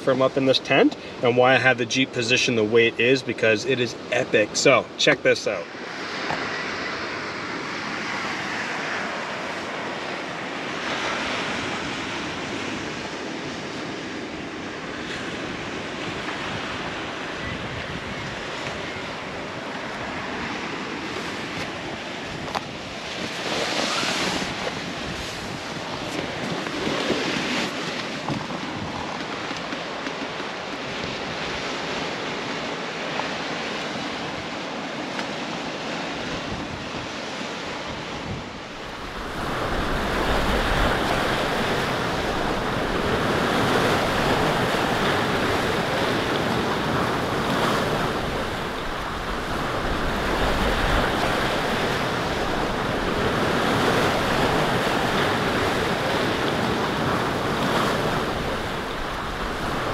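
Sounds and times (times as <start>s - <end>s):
wind: 0.0s - 59.9s
surf breaking on rocky shore: 3.9s - 59.9s.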